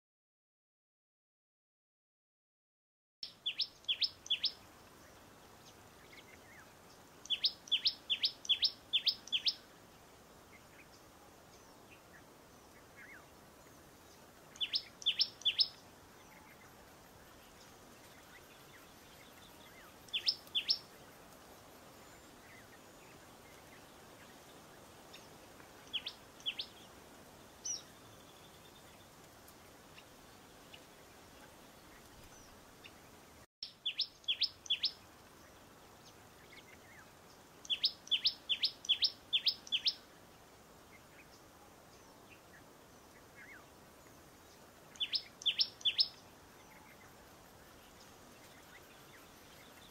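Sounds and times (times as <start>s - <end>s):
small bird chirping: 3.2s - 9.7s, 10.5s - 29.1s, 29.9s - 40.1s, 40.9s - 49.9s
faint hiss: 3.2s - 49.9s.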